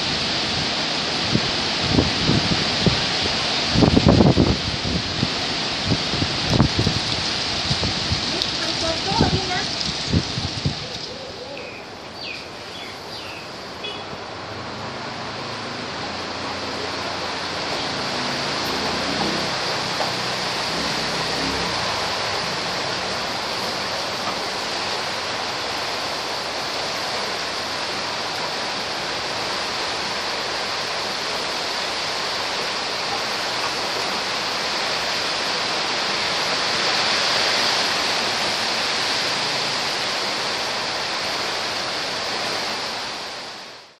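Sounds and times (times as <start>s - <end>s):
heavy rain on trees: 0.0s - 44.0s.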